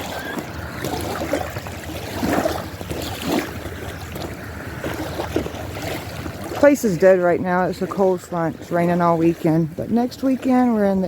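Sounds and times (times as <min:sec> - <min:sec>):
water lapping at shore: 0:00.0 - 0:11.0
water splashes: 0:00.0 - 0:11.0.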